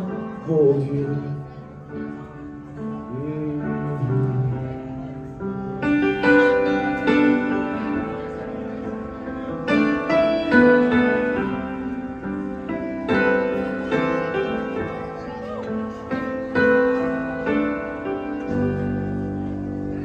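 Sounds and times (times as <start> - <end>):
upright piano chords: 0.0 - 20.0.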